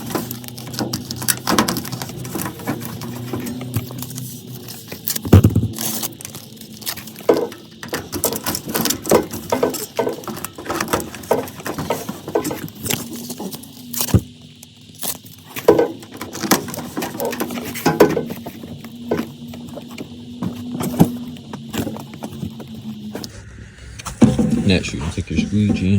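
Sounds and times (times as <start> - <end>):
tape crackling and scraping: 0.0 - 24.6.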